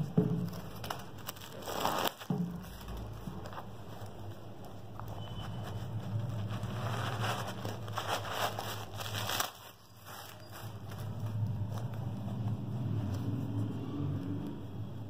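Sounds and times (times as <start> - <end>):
packing paper rustling: 0.0 - 13.8.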